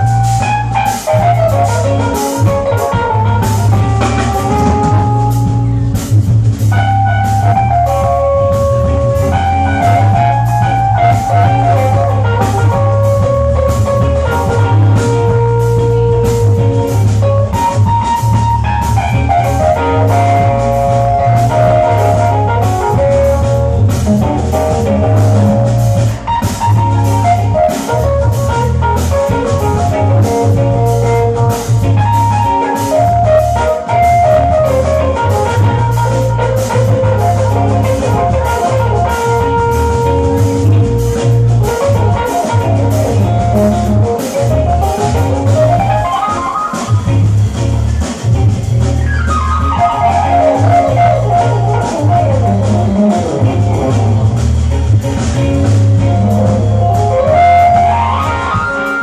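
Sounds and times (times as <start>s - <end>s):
drum kit: 0.0s - 59.0s
keyboard melody and chords: 0.0s - 59.0s
low bass line: 0.0s - 59.0s.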